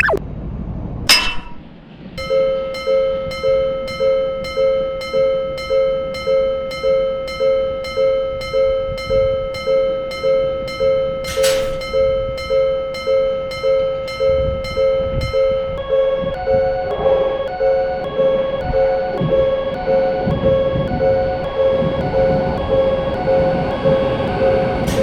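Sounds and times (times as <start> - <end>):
railroad crossing warning bell: 1.1 - 25.0
falling electronic sweep: 2.2 - 25.0.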